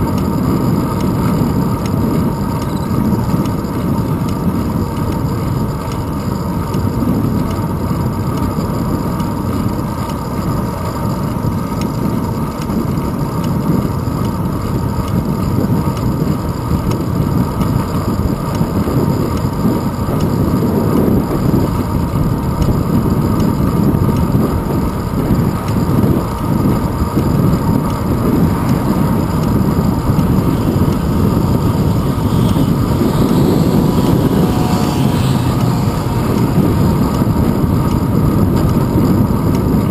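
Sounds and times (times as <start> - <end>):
tyres rumbling on asphalt: 0.0 - 39.9
wind buffeting microphone: 0.0 - 39.9.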